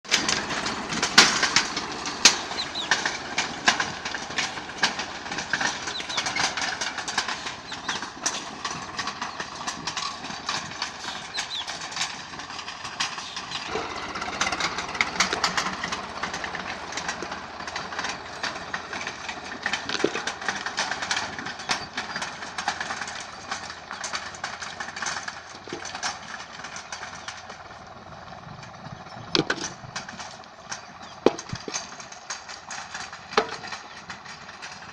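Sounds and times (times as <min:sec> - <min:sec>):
rotary tiller clattering: 0:00.0 - 0:34.9
tractor diesel engine running: 0:00.0 - 0:34.9.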